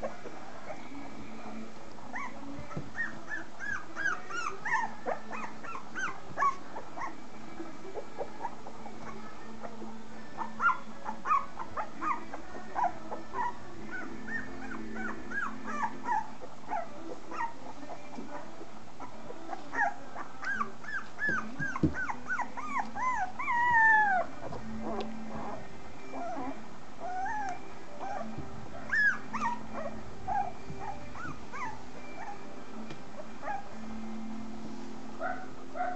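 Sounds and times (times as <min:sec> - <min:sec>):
puppies squeaking and whimpering: 0:00.0 - 0:33.9.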